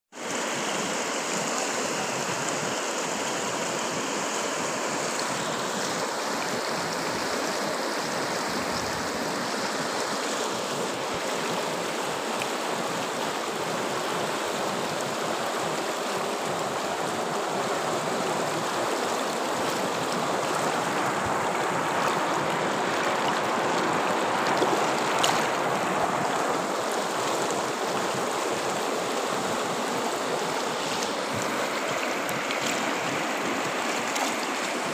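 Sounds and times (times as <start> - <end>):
river rushing over rapids: 0.2 - 34.9.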